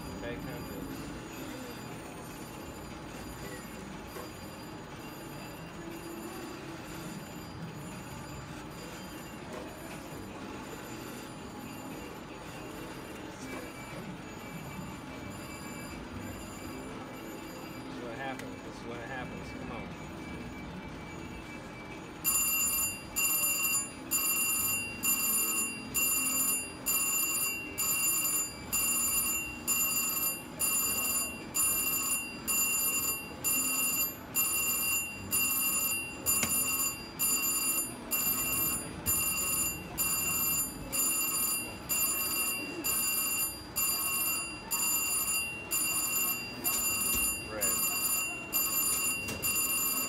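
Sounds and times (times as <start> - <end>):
slot machine win bell ringing: 0.0 - 50.0.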